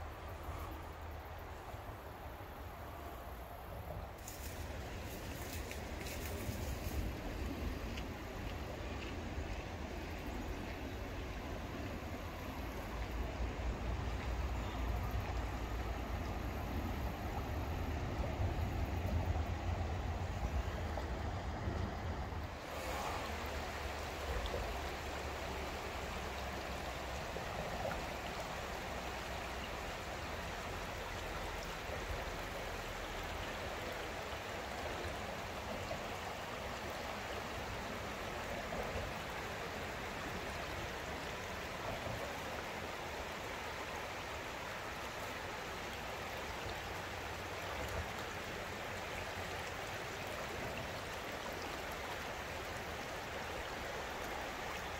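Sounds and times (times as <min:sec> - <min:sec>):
river water flowing over rocks: 0:00.0 - 0:54.9.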